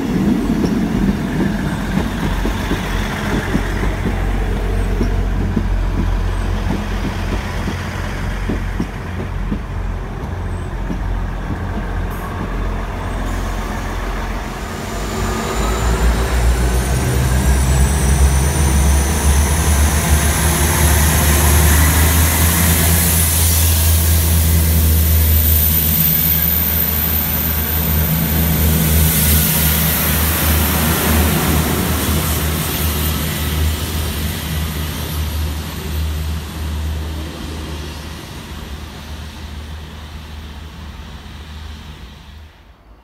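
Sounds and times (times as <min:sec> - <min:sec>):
diesel train engines droning: 0:00.0 - 0:43.0.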